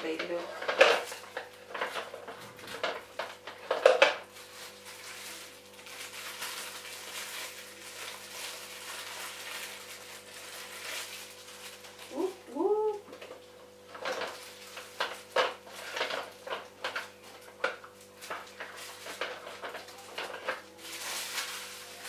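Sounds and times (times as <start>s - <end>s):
plastic wrapping crinkling: 0.2s - 22.0s.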